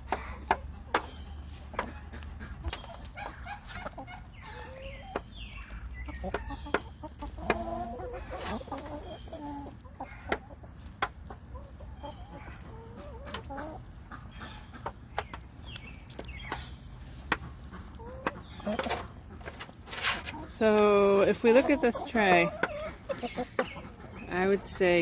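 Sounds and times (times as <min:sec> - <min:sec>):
hens clucking: 0:00.0 - 0:25.0.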